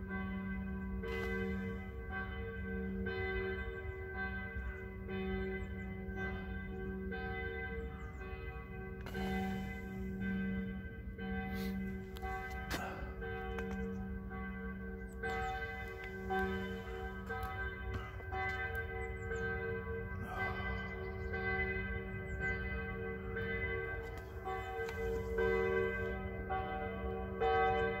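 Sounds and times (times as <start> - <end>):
church bells ringing: 0.0 - 28.0.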